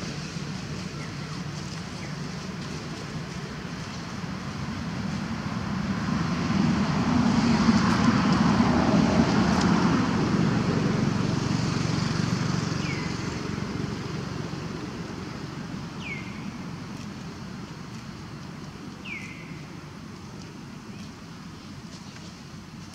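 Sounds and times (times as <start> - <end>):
road vehicle passing: 0.0 - 22.8.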